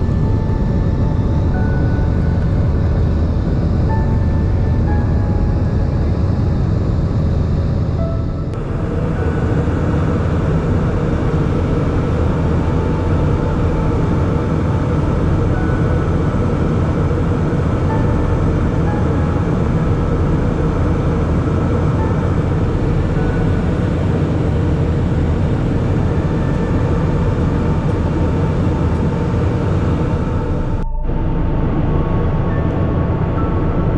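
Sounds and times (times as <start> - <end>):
airliner cabin drone: 0.0 - 33.9.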